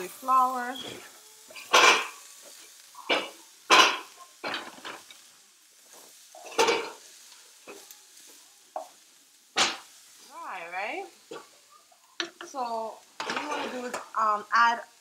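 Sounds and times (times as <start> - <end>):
utensil scraping frying pan: 0.0 - 10.4, 11.0 - 14.3
food sizzling in oil: 0.0 - 15.0.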